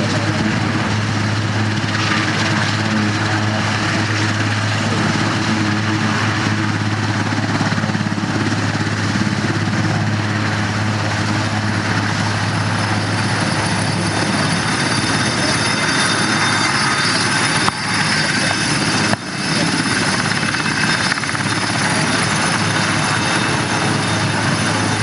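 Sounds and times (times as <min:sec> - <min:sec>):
helicopter turbines and rotor drone: 0:00.0 - 0:25.0.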